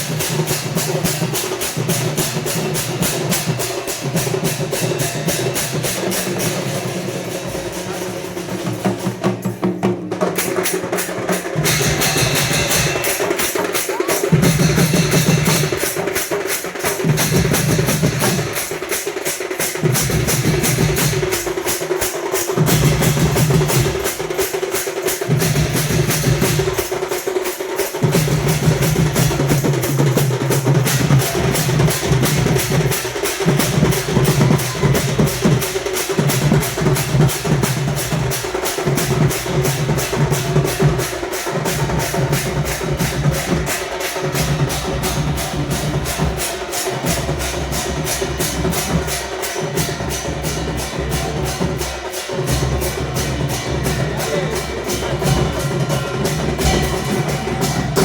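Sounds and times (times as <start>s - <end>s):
metal gongs and drums beating: 0.0s - 58.0s.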